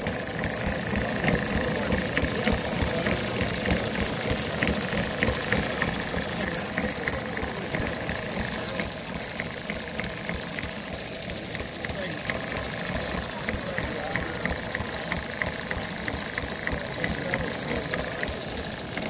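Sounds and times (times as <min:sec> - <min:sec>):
small model engine running: 0:00.0 - 0:19.0.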